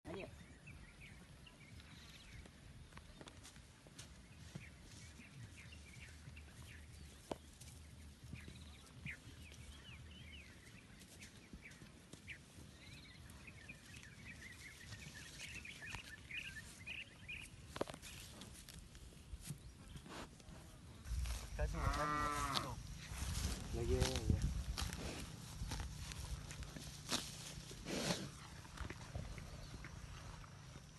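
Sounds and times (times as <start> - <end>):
small birds chirping: 0.1 - 30.9.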